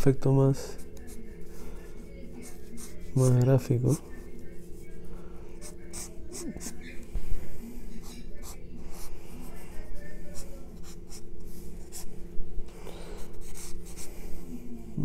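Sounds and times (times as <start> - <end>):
pencil strokes scratching paper: 0.6 - 12.1, 13.2 - 14.6.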